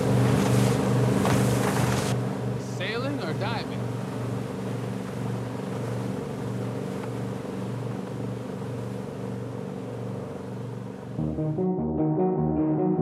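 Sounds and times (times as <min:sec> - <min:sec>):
water and wind rushing: 0:00.0 - 0:11.2
speedboat engine droning: 0:00.0 - 0:13.0.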